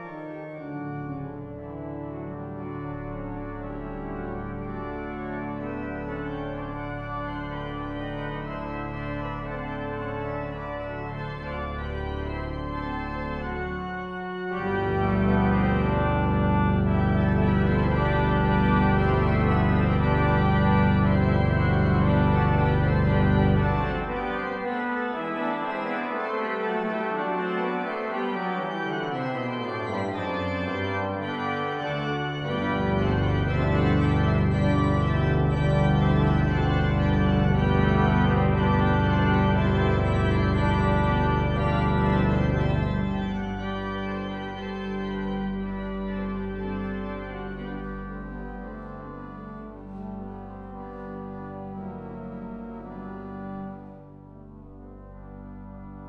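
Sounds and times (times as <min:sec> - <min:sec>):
church organ chords: 0:00.0 - 0:56.0
deep organ pedal bass: 0:00.0 - 0:56.0.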